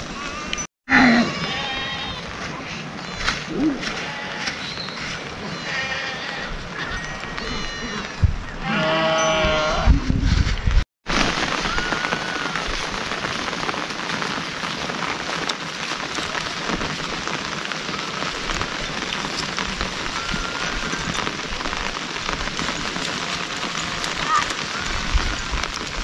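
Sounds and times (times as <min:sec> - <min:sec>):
steady rain falling: 0:01.4 - 0:09.6, 0:11.0 - 0:26.0.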